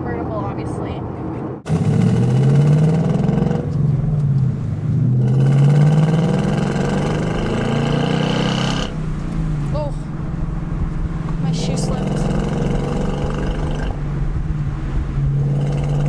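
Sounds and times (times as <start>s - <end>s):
car engine accelerating: 0.4s - 16.0s.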